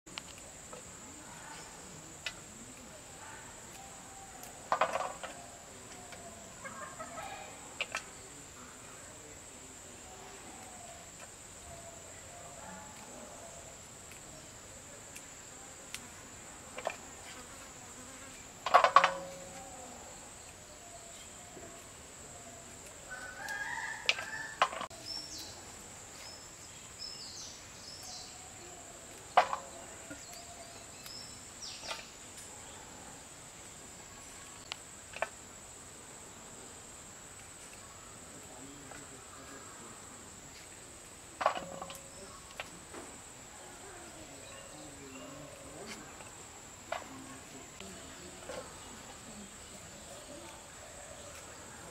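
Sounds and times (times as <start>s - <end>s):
insects droning: 0.1s - 51.9s.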